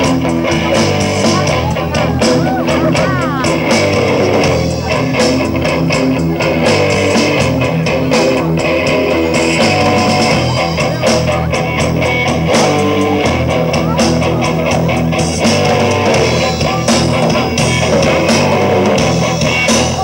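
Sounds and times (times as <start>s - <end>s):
drum kit: 0.0s - 20.0s
electric guitars: 0.0s - 20.0s.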